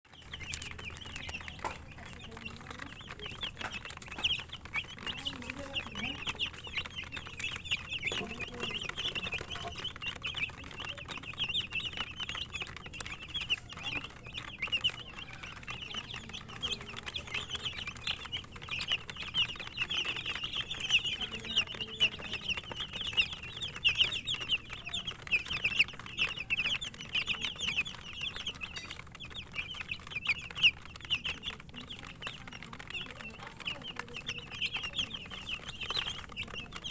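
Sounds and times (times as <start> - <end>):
chicks peeping: 0.0 - 36.9
faint clicks: 0.1 - 36.9.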